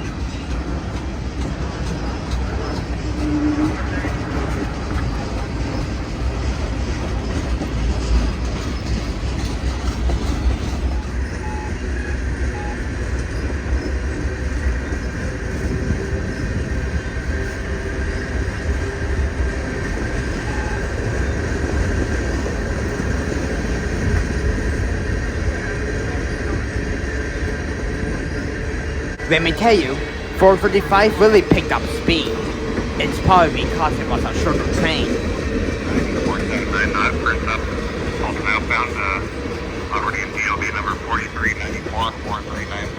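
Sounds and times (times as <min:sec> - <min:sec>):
freight train rumbling past: 0:00.0 - 0:42.9
train wheels clickety-clack: 0:00.0 - 0:42.9.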